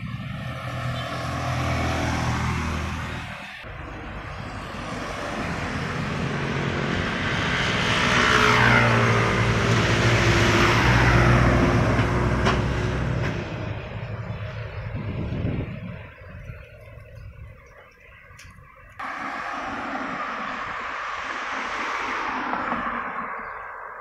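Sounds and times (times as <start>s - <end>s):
falling vehicle whine: 0.0s - 24.0s
vehicles passing by: 0.0s - 24.0s.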